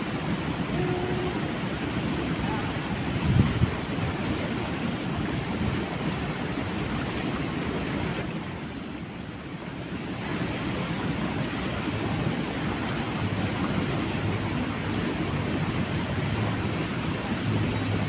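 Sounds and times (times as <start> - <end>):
water rushing in a ditch: 0.0 - 18.0.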